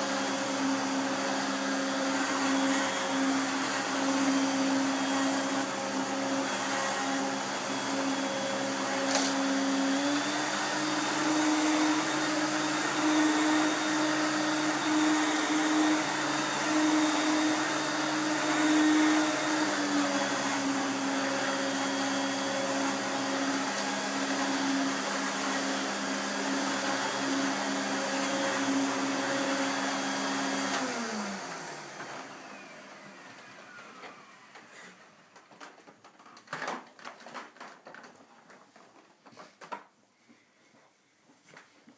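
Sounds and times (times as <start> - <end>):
vacuum cleaner motor running: 0.0 - 35.8.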